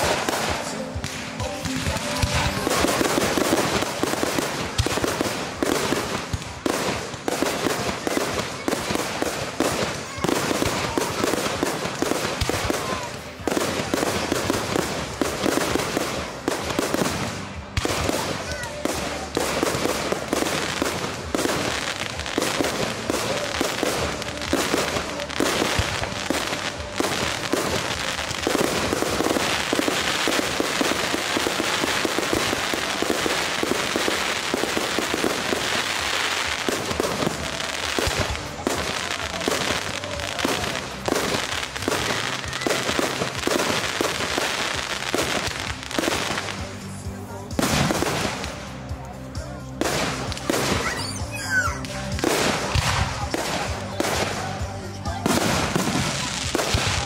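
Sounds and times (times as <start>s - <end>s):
fireworks bangs: 0.0s - 48.8s, 49.4s - 57.0s
fireworks crackling: 0.0s - 57.0s
music: 0.0s - 57.0s.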